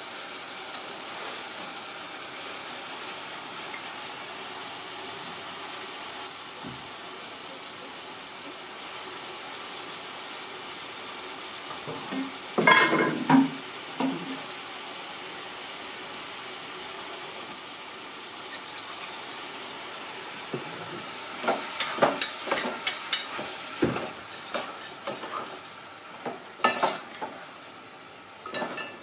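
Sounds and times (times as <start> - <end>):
gas burner hissing: 0.0 - 29.0.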